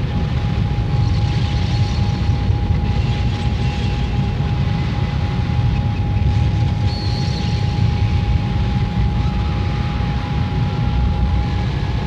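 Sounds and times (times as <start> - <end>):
dense noise drone: 0.0 - 12.0.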